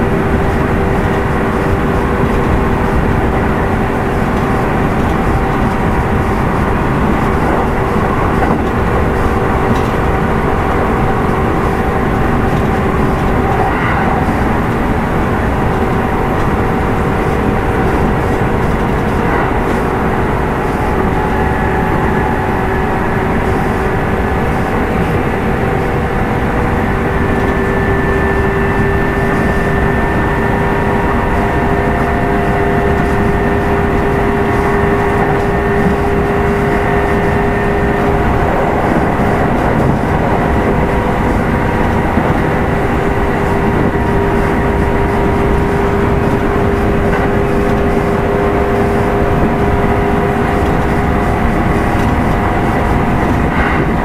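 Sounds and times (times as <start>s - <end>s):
train motor whine: 0.0s - 54.0s
wheels rumbling on rails: 0.0s - 54.0s.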